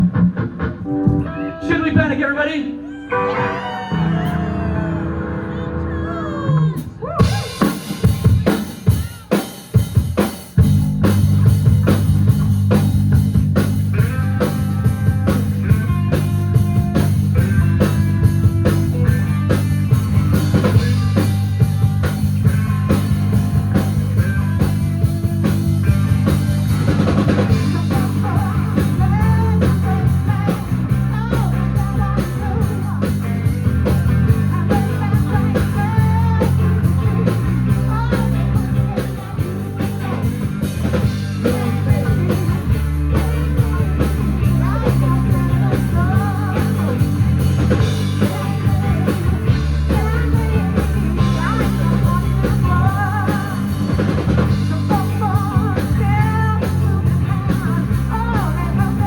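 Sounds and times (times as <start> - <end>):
rock band playing: 0.0 - 59.0
drum kit hits and fill: 3.2 - 59.0.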